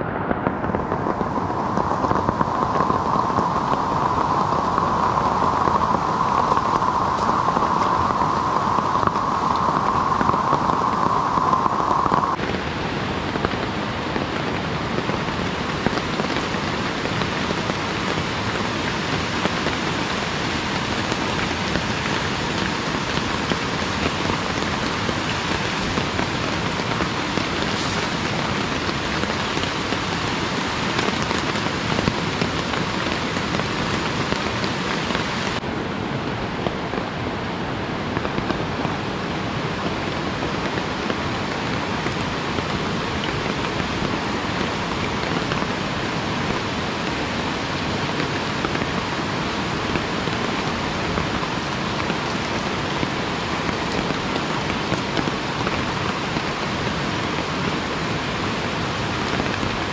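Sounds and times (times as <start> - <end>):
rain falling on tarp: 0.0 - 59.9.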